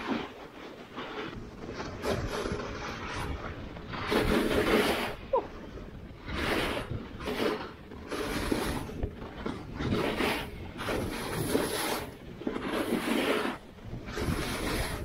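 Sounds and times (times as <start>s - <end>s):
ski edges swishing through snow: 0.0s - 15.0s.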